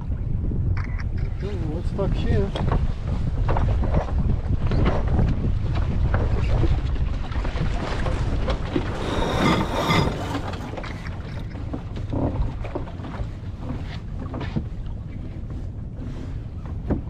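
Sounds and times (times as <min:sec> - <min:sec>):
wind buffeting microphone: 0:00.0 - 0:17.0
water rushing along hull: 0:01.1 - 0:17.0.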